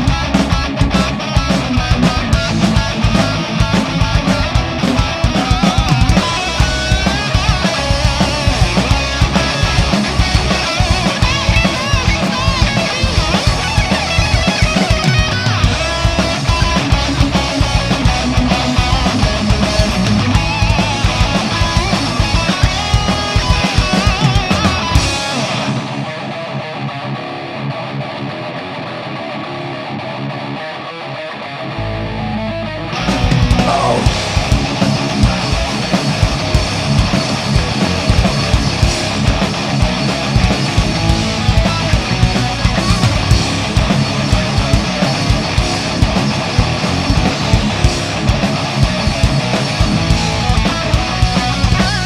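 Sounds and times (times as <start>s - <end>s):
drums: 0.0s - 31.5s, 32.5s - 52.0s
electric guitar playing: 0.0s - 52.0s.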